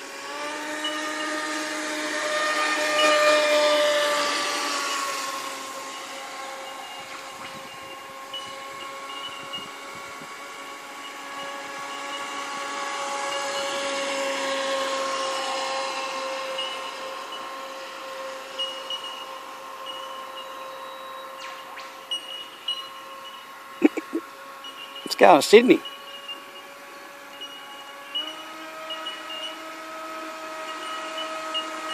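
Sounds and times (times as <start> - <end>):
model speedboat motor whining: 0.0 - 31.9.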